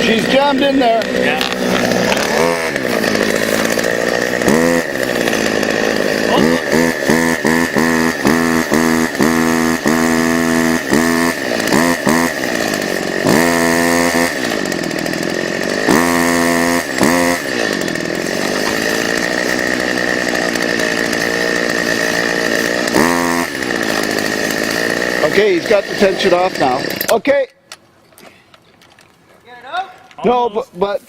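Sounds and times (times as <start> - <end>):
chainsaw revving: 0.0 - 27.4.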